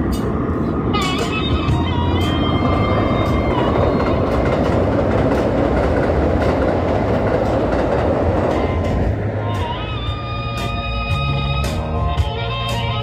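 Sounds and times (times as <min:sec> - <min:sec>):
train wheels rumbling on rail: 0:00.0 - 0:12.8.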